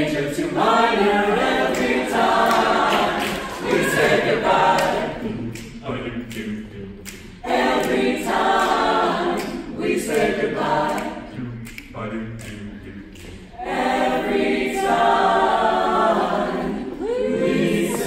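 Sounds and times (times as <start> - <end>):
a cappella group singing in harmony: 0.0 - 18.0.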